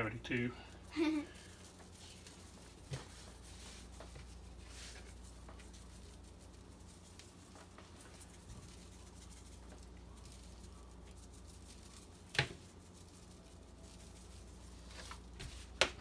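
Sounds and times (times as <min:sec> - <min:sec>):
low room hum: 0:00.0 - 0:16.0
seasoning shaker shaking: 0:00.0 - 0:16.0.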